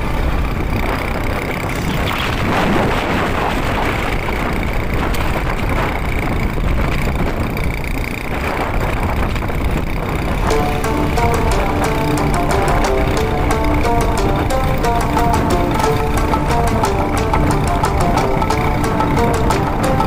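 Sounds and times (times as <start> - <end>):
vehicle engine and rolling noise: 0.0 - 20.0
wind rushing over microphone: 0.0 - 20.0.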